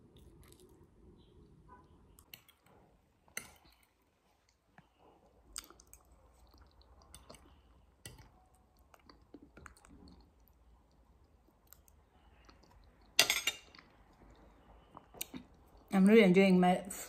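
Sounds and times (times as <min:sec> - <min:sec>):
faint chewing: 0:00.0 - 0:15.9.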